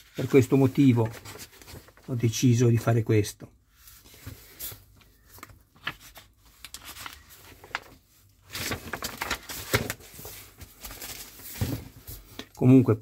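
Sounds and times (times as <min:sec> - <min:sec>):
paper pages rustling: 0:00.0 - 0:02.4, 0:03.8 - 0:12.4.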